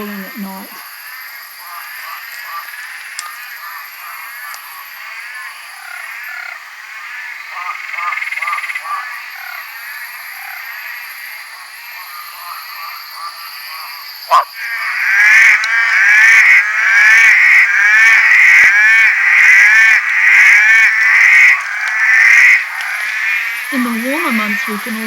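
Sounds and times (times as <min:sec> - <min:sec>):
chorus of frogs calling: 0:00.0 - 0:25.0.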